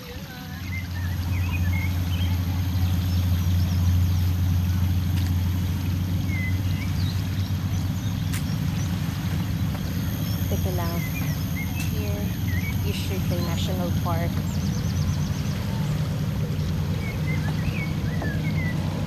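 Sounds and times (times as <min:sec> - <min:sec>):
low engine drone: 0:00.0 - 0:19.0
small birds chirping: 0:00.0 - 0:19.0.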